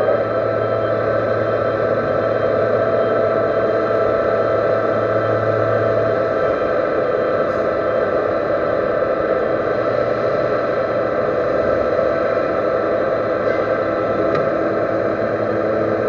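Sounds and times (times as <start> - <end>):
metal lathe running: 0.0 - 16.0.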